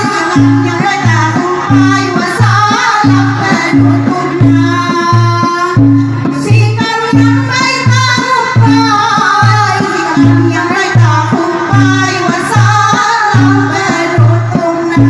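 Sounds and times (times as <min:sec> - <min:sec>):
deep repeating pitched beat: 0:00.0 - 0:15.0
folk music: 0:00.0 - 0:15.0
person singing: 0:00.0 - 0:15.0.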